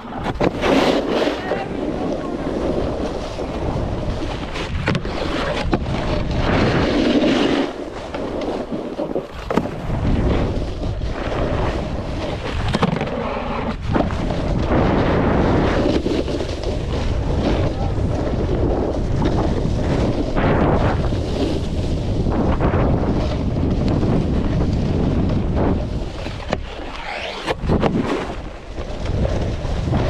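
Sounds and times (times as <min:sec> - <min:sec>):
snowboard sliding over snow: 0:00.0 - 0:30.0
wind rushing over microphone: 0:00.0 - 0:30.0.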